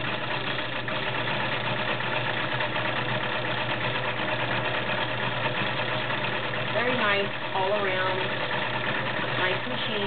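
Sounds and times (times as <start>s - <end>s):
sewing machine running: 0.0s - 10.0s.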